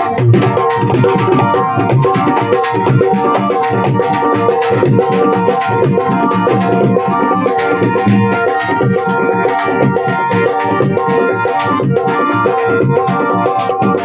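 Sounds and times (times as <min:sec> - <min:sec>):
fast hand-drum strokes: 0:00.0 - 0:14.0
held keyboard notes: 0:00.0 - 0:14.0.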